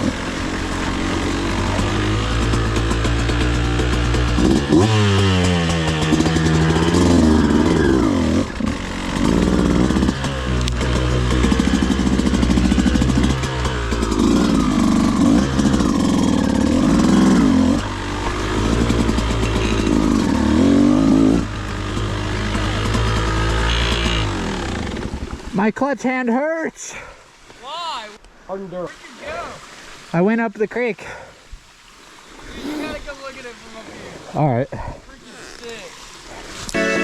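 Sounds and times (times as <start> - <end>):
dirt bike engine revving: 0.0 - 25.5, 31.6 - 35.8.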